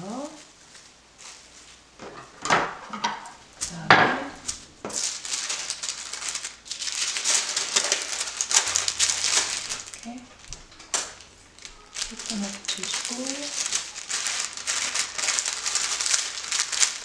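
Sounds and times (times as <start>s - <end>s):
paper crinkling and rustling: 0.1s - 2.3s, 3.6s - 17.0s.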